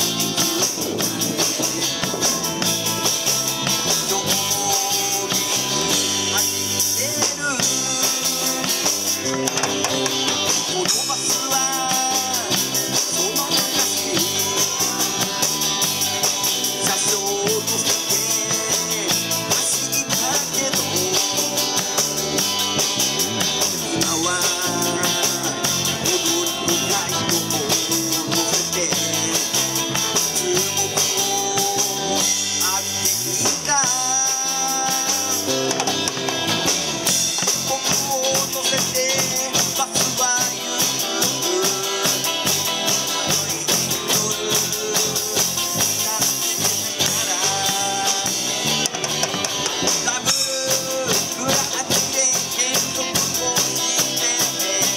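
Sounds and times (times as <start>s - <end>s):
drum kit with cymbals: 0.0s - 54.9s
electric bass: 0.0s - 54.9s
electric guitars: 0.0s - 54.9s
man singing: 0.0s - 54.9s.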